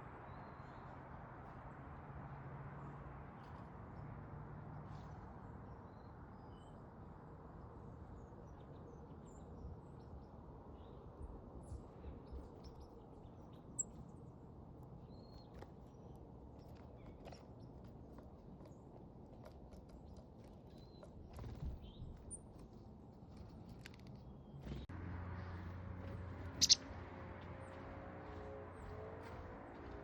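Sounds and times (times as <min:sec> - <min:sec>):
faint songbirds chirping: 0:04.8 - 0:29.9.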